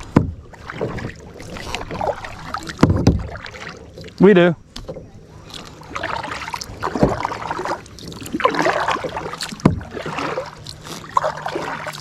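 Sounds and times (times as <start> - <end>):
kayak paddle splashing water: 0.0 - 12.0
paddle knocking on hull: 0.0 - 12.0.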